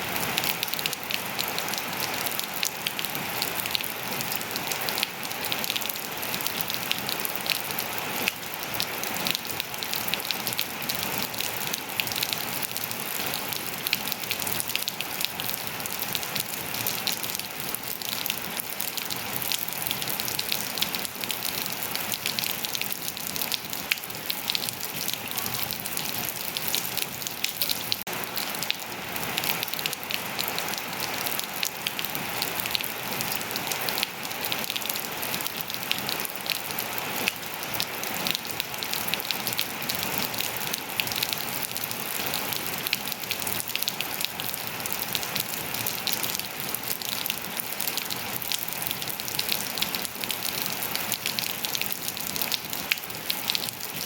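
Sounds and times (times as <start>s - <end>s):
rain on hard surfaces: 0.0s - 54.0s.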